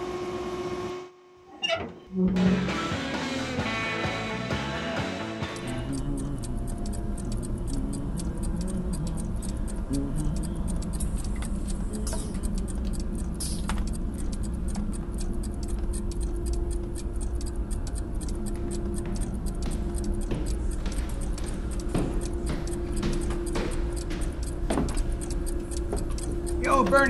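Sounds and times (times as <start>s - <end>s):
clock ticking fast: 3.7s - 27.0s.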